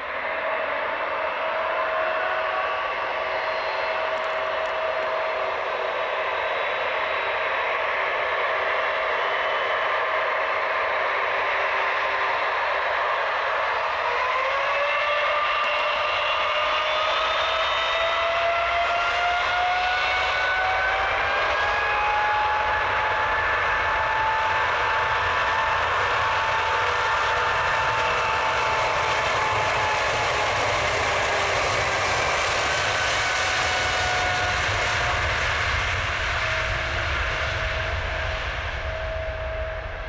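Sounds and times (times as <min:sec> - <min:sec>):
jet engines roaring: 0:00.0 - 0:40.0
rising engine whine: 0:00.0 - 0:40.0.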